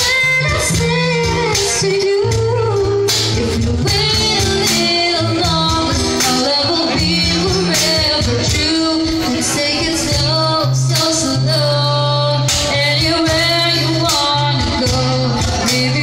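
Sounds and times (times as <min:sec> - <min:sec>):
band playing a song: 0:00.0 - 0:16.0
bass line: 0:00.0 - 0:16.0
person singing: 0:00.0 - 0:16.0.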